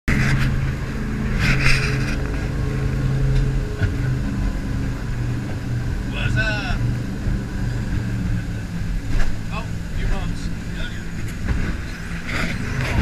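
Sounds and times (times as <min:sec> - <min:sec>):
jet boat engine running: 0:00.1 - 0:13.0.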